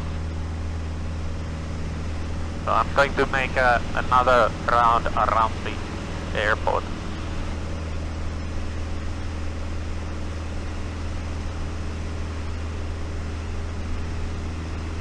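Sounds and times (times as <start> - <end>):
propeller aircraft engine hum: 0.0 - 15.0.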